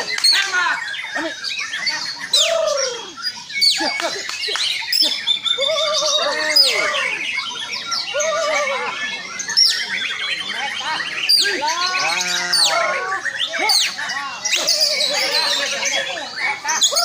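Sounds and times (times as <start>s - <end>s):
songbird whistling song: 0.0s - 17.0s.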